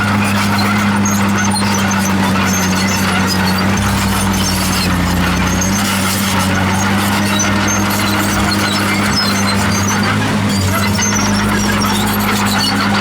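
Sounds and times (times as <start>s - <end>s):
diesel engine drone: 0.0s - 13.0s
steel tracks squeaking: 0.0s - 13.0s.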